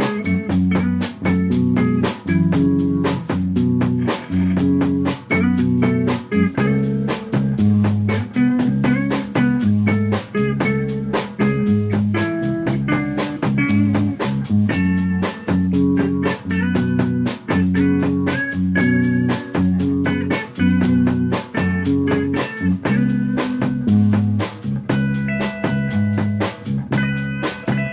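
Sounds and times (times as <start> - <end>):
drum hits: 0.0 - 27.9
rock band playing: 0.0 - 27.9.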